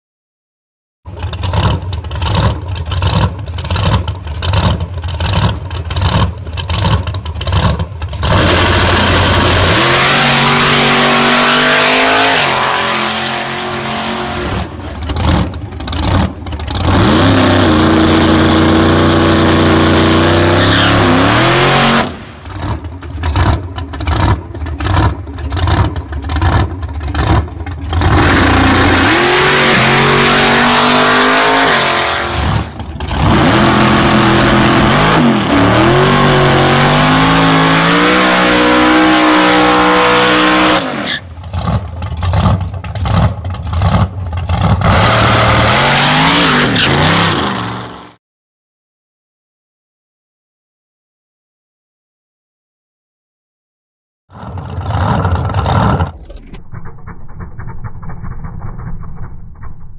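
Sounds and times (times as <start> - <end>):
race car engine revving: 1.2 - 48.2, 54.3 - 56.9.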